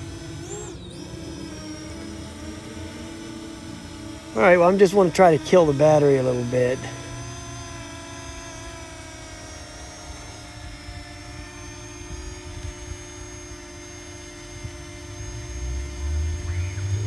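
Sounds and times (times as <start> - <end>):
drone propellers humming: 0.0 - 17.0.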